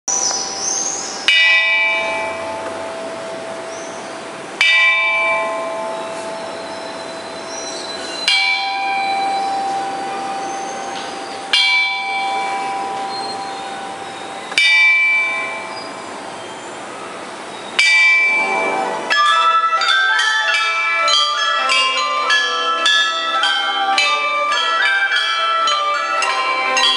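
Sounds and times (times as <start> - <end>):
bronze chime bells struck: 0.1 - 26.9.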